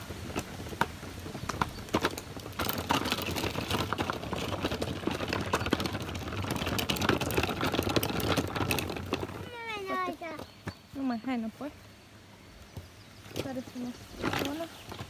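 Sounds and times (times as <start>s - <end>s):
footsteps on stony trail: 0.0s - 11.7s, 12.6s - 15.0s.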